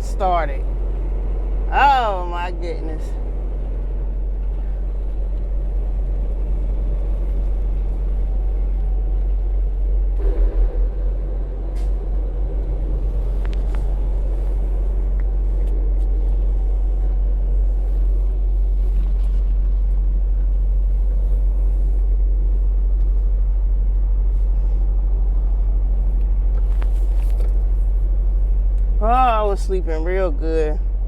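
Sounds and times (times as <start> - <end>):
truck diesel engine rumbling: 0.0 - 31.0.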